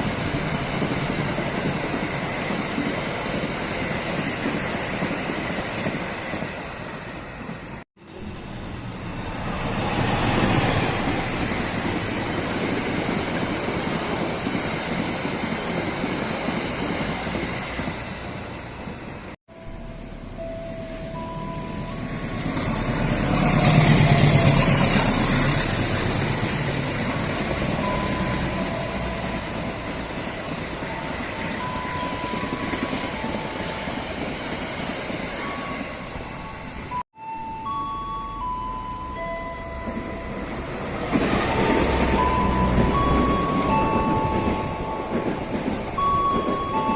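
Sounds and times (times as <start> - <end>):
train rumbling past: 0.0 - 37.0, 37.6 - 46.9.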